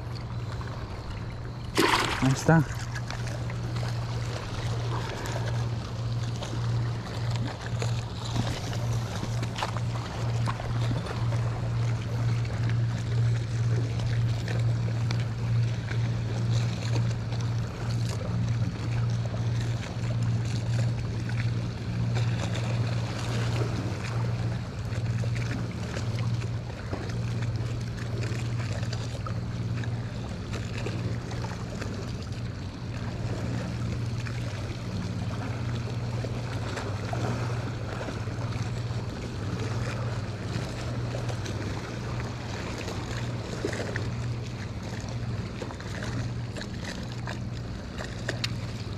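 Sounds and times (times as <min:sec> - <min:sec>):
steady low motor hum: 0:00.0 - 0:48.9
water lapping against seawall: 0:00.0 - 0:48.9.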